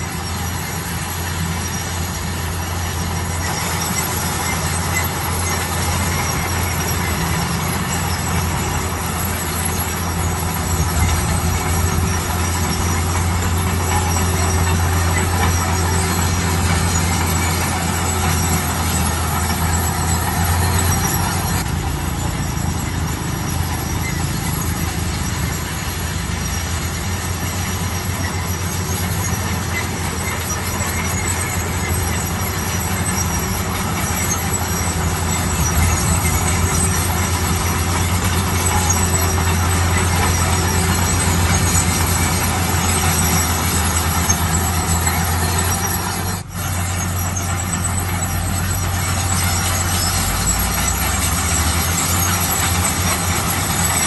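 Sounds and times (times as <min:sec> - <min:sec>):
diesel machinery engine drone: 0:00.0 - 0:54.0
mechanical grinding and squealing: 0:00.0 - 0:54.0.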